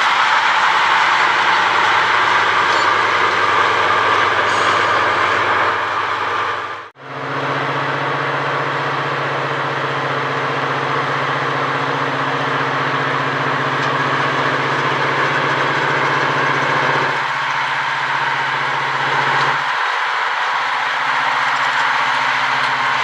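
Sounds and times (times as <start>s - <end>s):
diesel engine idling: 0.0s - 23.0s
vehicle sound: 0.0s - 23.0s.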